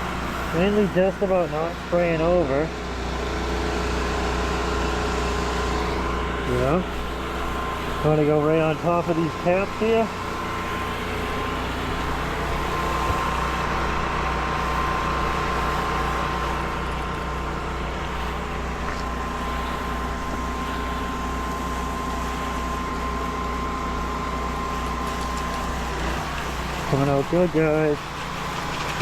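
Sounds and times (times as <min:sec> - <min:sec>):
generator and pump engine drone: 0:00.0 - 0:29.0.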